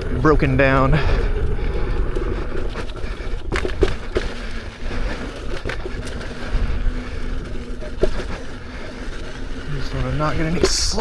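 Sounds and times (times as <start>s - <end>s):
electric unicycle rumbling: 0.0s - 11.0s
wheel knocking and rattling on rocks: 0.0s - 11.0s.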